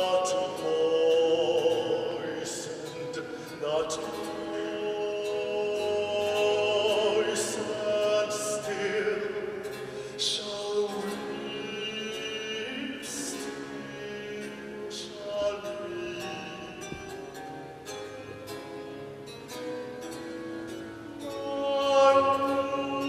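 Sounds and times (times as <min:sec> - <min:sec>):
man singing operatic style: 0:00.0 - 0:17.4, 0:21.2 - 0:23.0.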